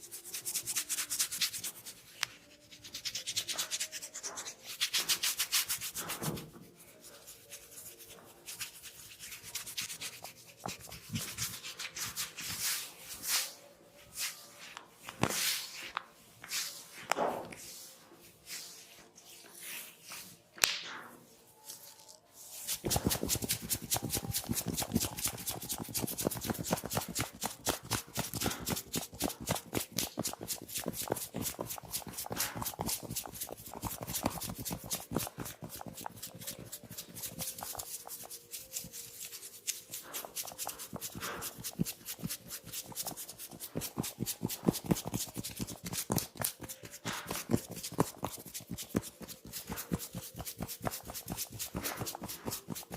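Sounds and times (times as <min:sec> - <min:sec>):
soft rubbing: 0:00.0 - 0:20.5, 0:21.3 - 0:52.9.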